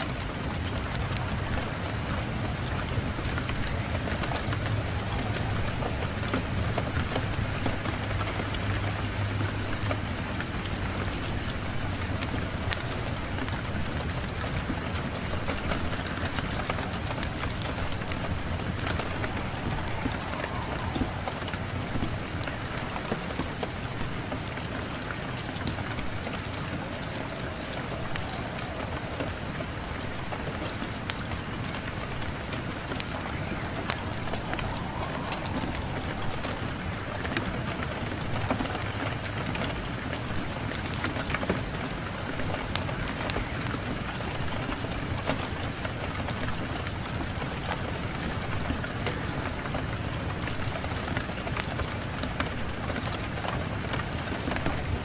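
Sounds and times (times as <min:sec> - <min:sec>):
low wind rumble: 0:00.0 - 0:55.0
wood fire crackling and popping: 0:00.0 - 0:55.0.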